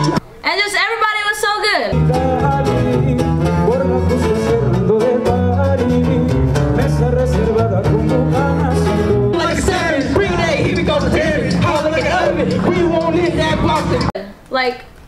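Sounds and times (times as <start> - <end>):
bass line: 0.0 - 0.2, 1.9 - 14.1
acoustic guitar: 0.0 - 0.3, 1.9 - 14.2
person singing: 1.9 - 14.2.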